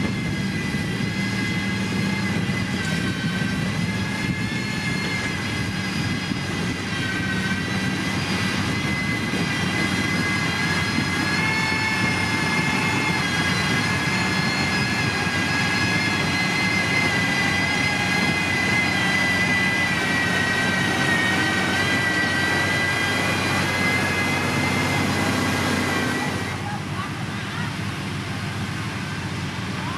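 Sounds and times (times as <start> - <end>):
diesel engine drone: 0.0 - 29.9
high whine: 0.0 - 29.9.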